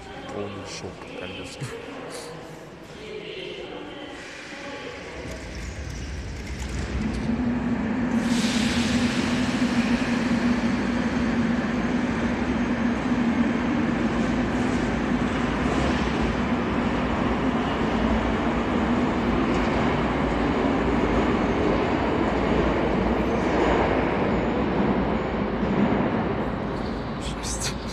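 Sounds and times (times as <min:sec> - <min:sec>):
metro train running: 0:00.0 - 0:27.9
train hum: 0:03.6 - 0:27.9.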